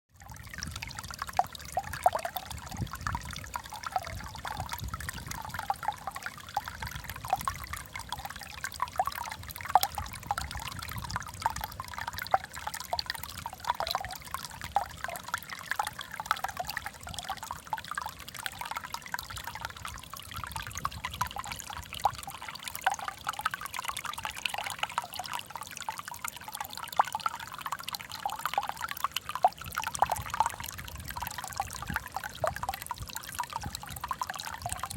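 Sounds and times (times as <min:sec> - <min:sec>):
water trickling and burbling: 0:00.1 - 0:34.9
small splashes and drips: 0:00.2 - 0:34.9.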